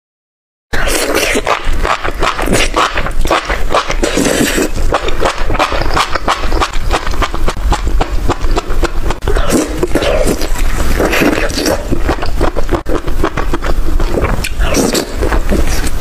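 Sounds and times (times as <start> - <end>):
chewing and crunching: 0.8 - 16.0
mouth clicks and smacks: 0.8 - 16.0.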